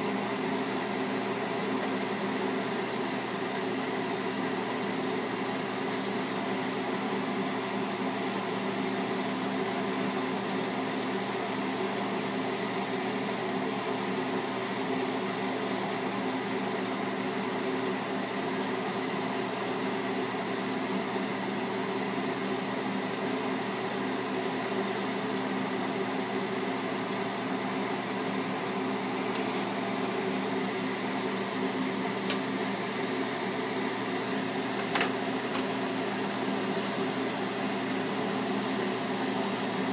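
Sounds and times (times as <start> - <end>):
torch burning with hiss: 0.0 - 12.5, 14.0 - 39.9.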